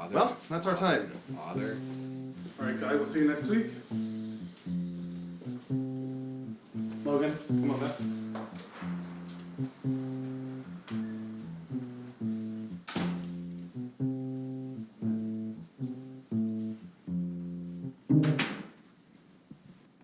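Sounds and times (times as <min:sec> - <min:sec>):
plucked guitar chords: 0:01.1 - 0:18.6
guitar strum: 0:01.2 - 0:18.5.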